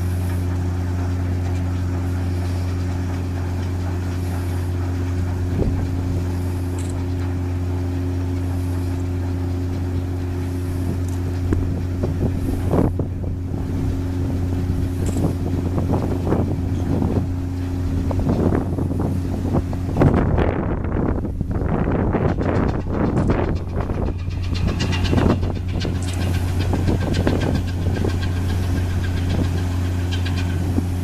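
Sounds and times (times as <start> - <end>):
ship engine droning: 0.0 - 31.0
wind buffeting microphone: 0.0 - 31.0.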